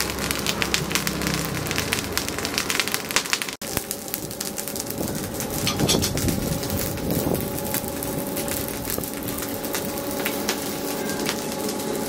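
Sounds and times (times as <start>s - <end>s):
coal fire crackling and popping: 0.0s - 12.0s
rushing hiss of fire: 0.0s - 12.0s.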